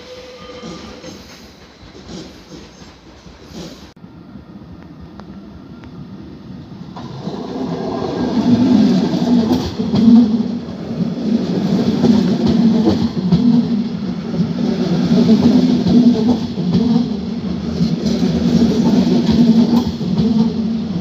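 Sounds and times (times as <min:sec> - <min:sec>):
train rolling past: 0:00.0 - 0:21.0.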